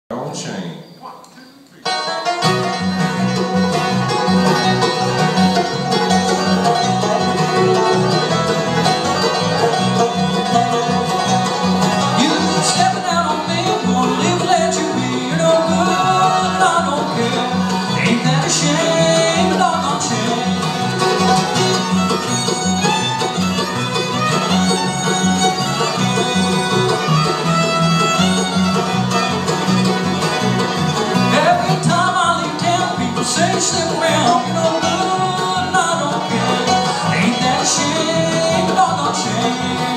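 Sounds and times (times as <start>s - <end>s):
acoustic guitar: 0.2s - 39.9s
banjo: 1.8s - 39.9s
fiddle: 1.8s - 39.9s
mandolin: 1.8s - 39.9s
upright bass: 1.8s - 39.9s.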